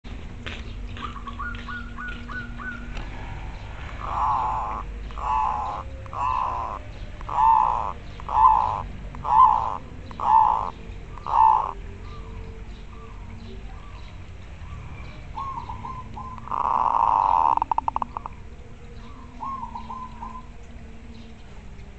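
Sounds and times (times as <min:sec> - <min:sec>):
dove singing rising notes: 0:00.7 - 0:21.9
dove cooing: 0:01.0 - 0:14.0, 0:14.6 - 0:20.7.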